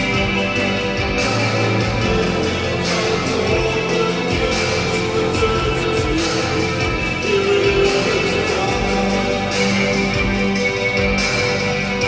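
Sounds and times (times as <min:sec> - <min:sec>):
electric guitar: 0:00.0 - 0:12.0
live darkwave band music: 0:00.0 - 0:12.0.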